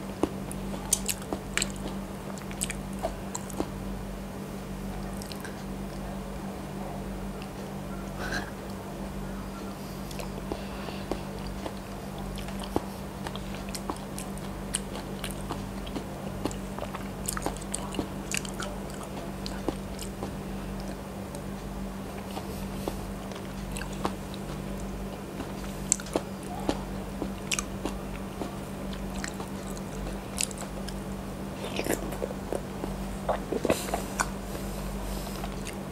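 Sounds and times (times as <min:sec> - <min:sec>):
close chewing sounds: 0:00.0 - 0:03.9, 0:04.9 - 0:35.9
low hum: 0:00.0 - 0:35.9.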